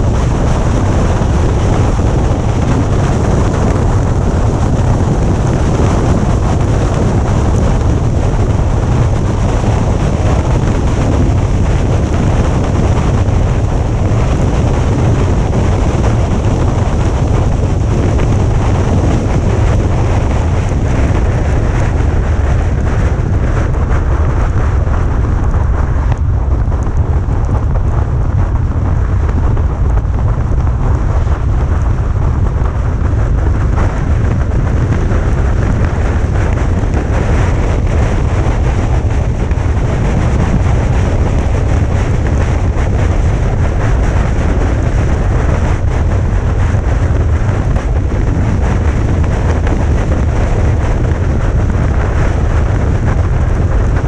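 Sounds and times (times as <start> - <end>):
rain and wind rumble: 0.0 - 54.0.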